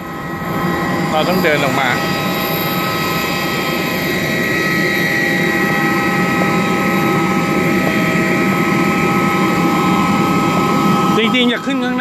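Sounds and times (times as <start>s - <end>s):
constant rushing noise: 0.0s - 12.0s
jet machinery high whine: 0.0s - 12.0s.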